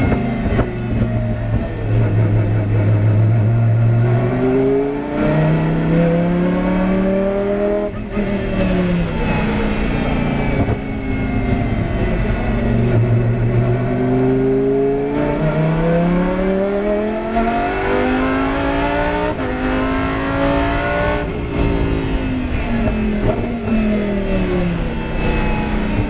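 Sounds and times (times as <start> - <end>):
gear change: 0.0 - 26.0
race car engine at high revs: 0.0 - 26.0.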